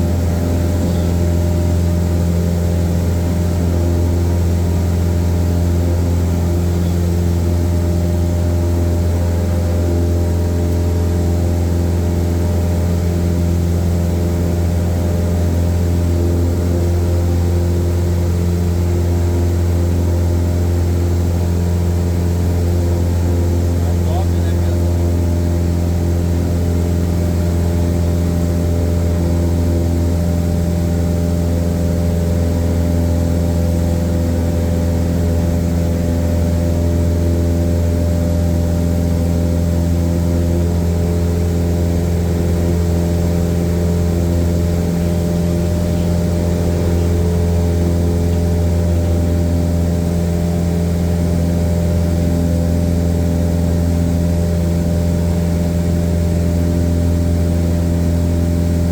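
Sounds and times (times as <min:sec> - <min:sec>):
airplane engine droning in cabin: 0:00.0 - 0:58.9.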